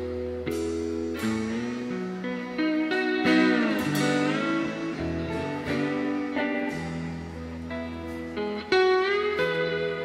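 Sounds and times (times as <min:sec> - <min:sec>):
plucked guitar with bending notes: 0:00.0 - 0:10.0.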